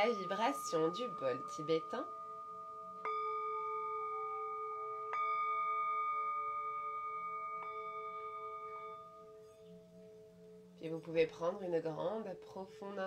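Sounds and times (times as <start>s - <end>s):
singing bowl struck with mallet: 0.0s - 11.1s
singing bowl ringing tone: 0.0s - 13.0s.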